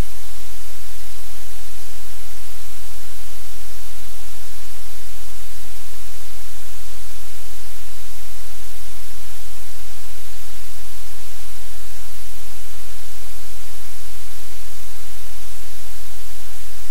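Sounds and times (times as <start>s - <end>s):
low electrical hum: 0.0s - 16.9s
static hiss: 0.0s - 16.9s.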